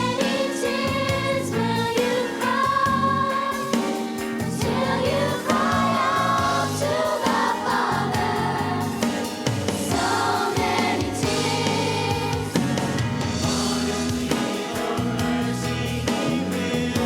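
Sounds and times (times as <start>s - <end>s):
instrumental accompaniment: 0.0s - 17.0s
youth choir singing: 0.0s - 17.0s.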